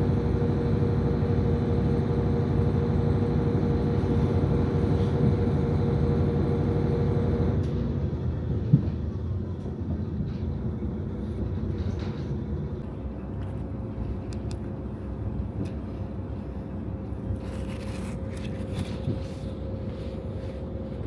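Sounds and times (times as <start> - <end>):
diesel railcar engine humming: 0.0 - 21.0.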